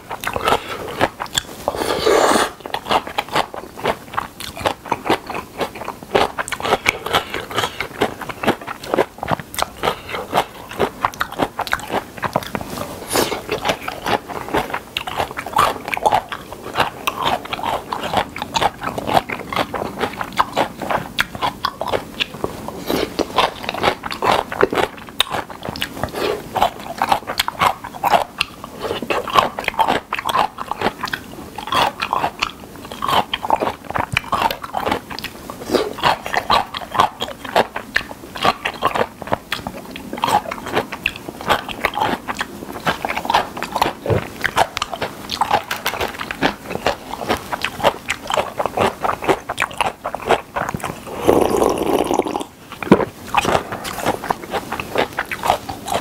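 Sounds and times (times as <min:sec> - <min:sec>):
wet crunchy chewing: 0:00.0 - 0:56.0.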